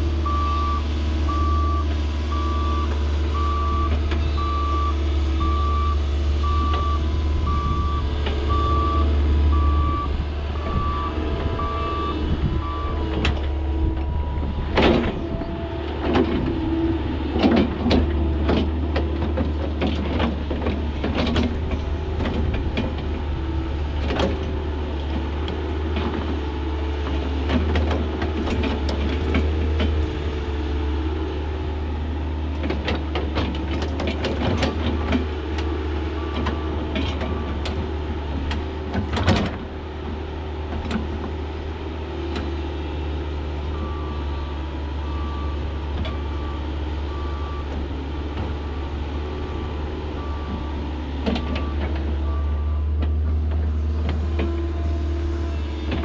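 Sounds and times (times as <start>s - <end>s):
heavy diesel equipment running: 0.0s - 56.0s.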